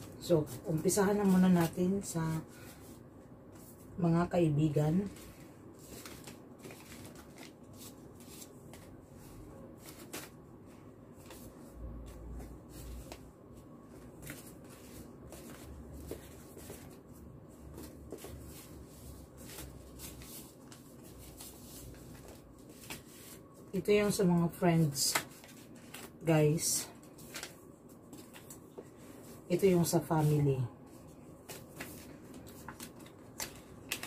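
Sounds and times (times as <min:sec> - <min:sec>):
paper envelopes rustling: 0:00.0 - 0:03.9, 0:04.7 - 0:34.0.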